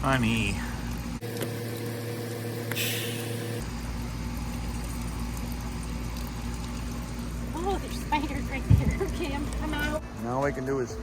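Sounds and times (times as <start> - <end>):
electric fan motor humming: 0.0 - 10.8.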